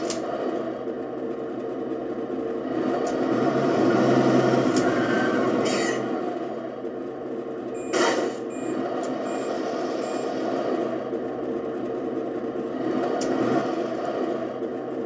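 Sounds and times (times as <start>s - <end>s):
simulated truck engine from loudspeaker: 0.0s - 15.0s.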